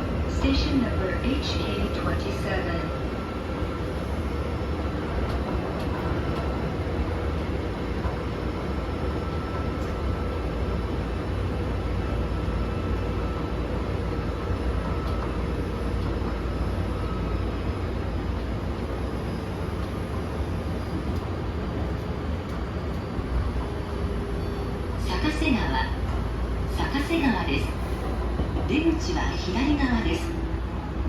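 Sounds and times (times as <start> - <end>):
train wheels rumbling: 0.0 - 31.0.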